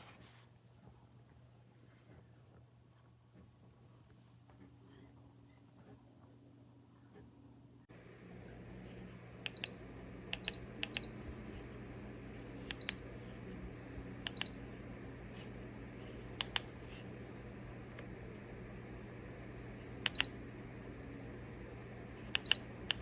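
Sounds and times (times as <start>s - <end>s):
heater fan humming: 0.0s - 23.0s.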